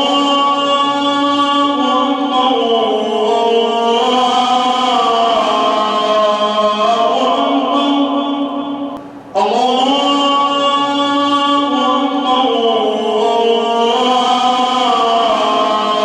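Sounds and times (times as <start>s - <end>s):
man chanting call to prayer: 0.0s - 16.0s.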